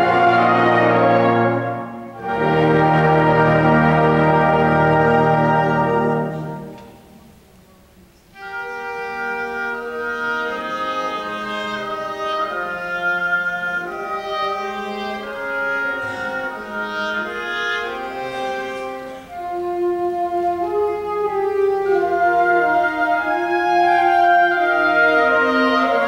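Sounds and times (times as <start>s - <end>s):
wind band chord: 0.0s - 7.5s, 8.4s - 26.0s
woodwinds playing held notes: 0.0s - 26.0s.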